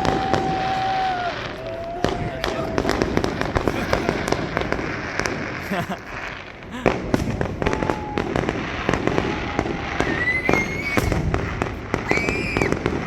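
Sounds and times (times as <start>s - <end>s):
firework bangs and crackles: 0.0s - 13.0s
firework whistling: 0.0s - 13.0s.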